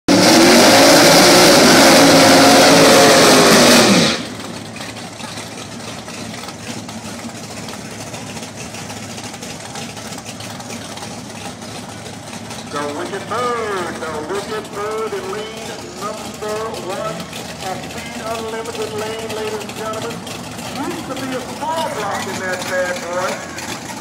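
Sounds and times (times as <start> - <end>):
race car engine revving: 0.1 - 24.0.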